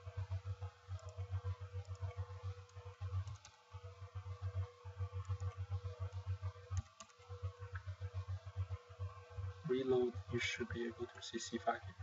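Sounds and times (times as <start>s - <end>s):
pulsing low hum: 0.0s - 12.0s.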